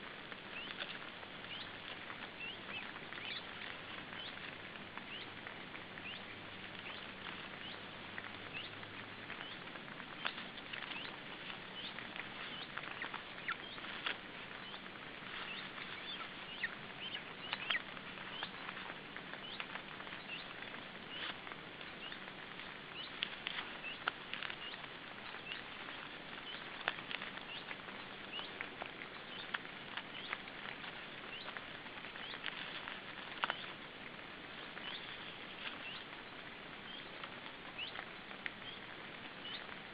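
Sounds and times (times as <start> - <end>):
faint irregular ticks: 0.0 - 39.9
steady hiss: 0.0 - 39.9.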